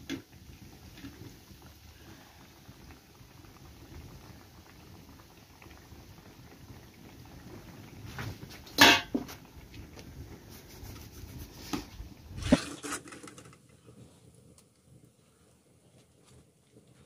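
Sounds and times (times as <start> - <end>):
dough sizzling in hot oil: 0.0 - 17.0.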